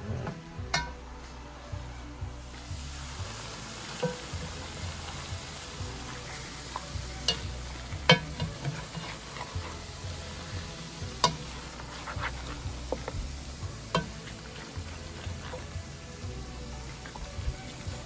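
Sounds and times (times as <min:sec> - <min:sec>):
spatula stirring chicken in bowl: 0:03.0 - 0:18.0.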